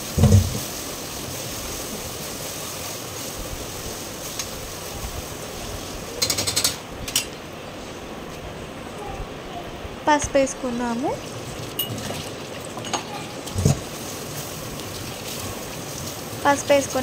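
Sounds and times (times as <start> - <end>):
onions sizzling in hot oil: 0.0 - 6.9, 10.1 - 17.0.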